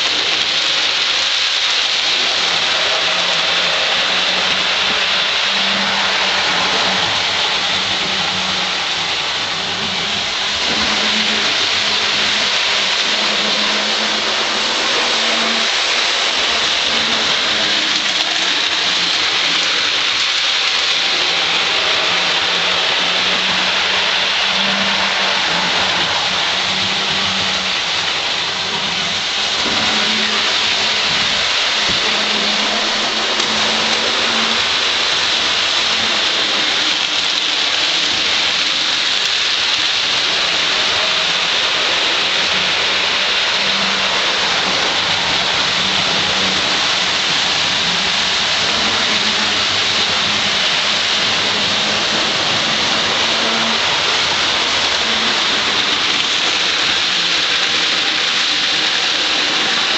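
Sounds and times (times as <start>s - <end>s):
model train wheels rolling: 0.0s - 59.9s.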